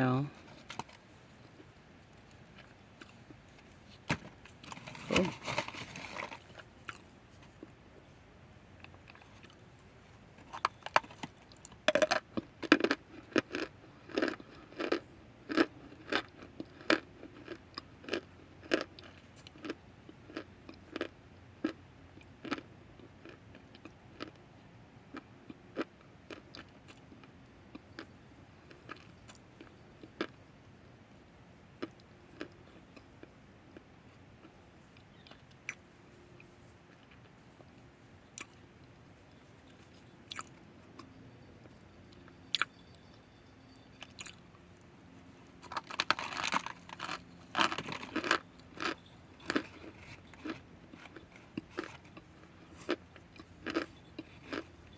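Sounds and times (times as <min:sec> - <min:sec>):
person chewing crunchy food: 0:00.3 - 0:08.1, 0:08.7 - 0:24.4, 0:25.1 - 0:30.4, 0:31.8 - 0:43.0, 0:43.8 - 0:54.9.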